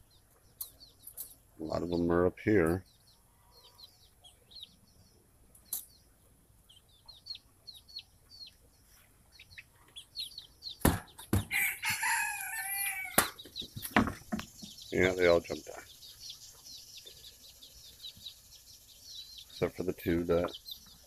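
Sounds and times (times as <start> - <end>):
young chickens peeping: 0.0 - 21.0.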